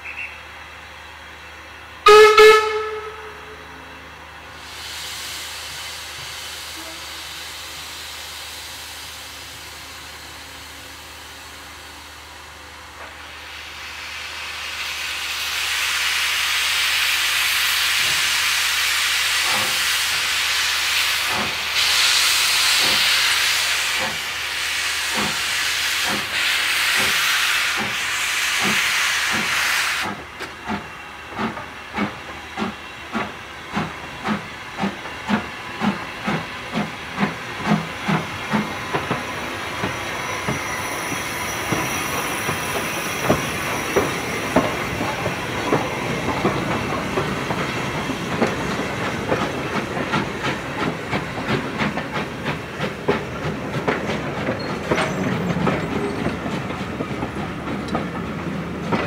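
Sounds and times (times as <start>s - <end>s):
steam locomotive chuffing: 0.0s - 59.0s
steam hissing: 4.5s - 59.0s.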